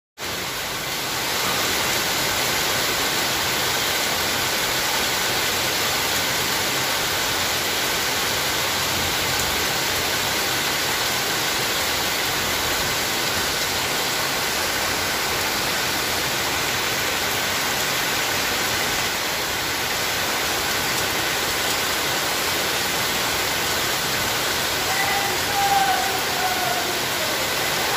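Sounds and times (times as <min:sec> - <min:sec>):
steady rain hiss: 0:00.2 - 0:27.9.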